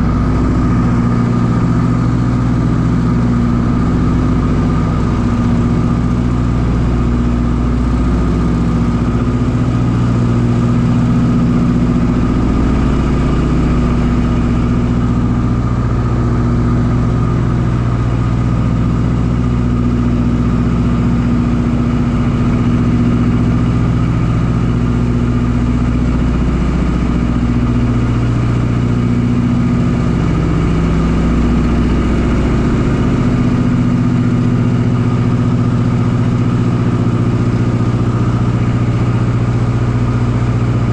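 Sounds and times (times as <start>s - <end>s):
aircraft engines droning: 0.0s - 40.9s.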